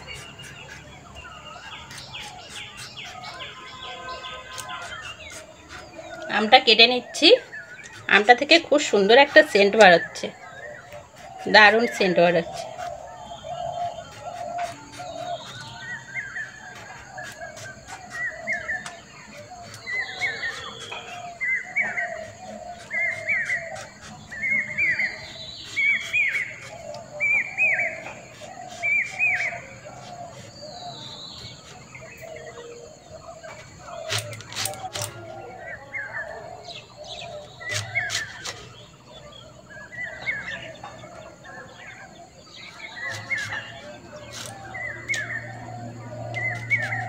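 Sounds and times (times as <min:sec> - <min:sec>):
bird chirping: 0:00.0 - 0:47.0
downward-sliding bird calls: 0:00.0 - 0:47.0
lower bird calls: 0:00.0 - 0:47.0.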